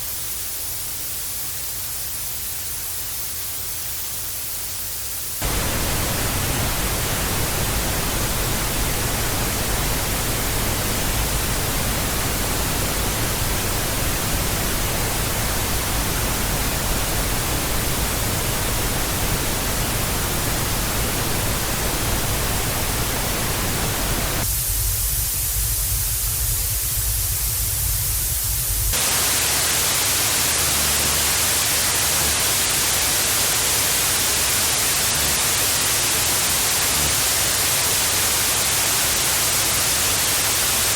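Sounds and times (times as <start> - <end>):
television static hiss: 0.0 - 24.5, 26.2 - 40.9.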